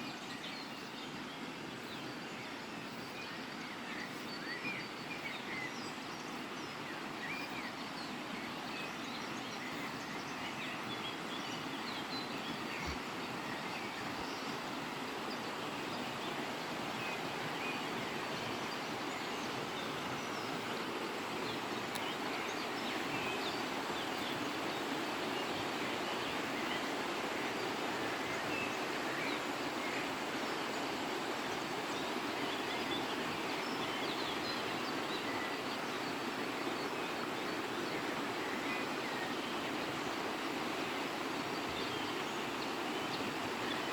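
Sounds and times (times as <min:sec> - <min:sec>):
birds singing: 0:00.0 - 0:43.9.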